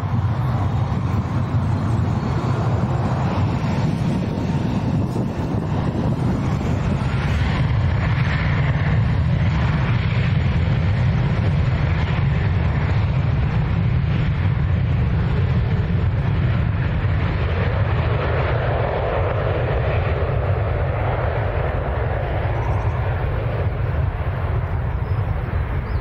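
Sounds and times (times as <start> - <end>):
jet engines roaring on takeoff: 0.0 - 26.0.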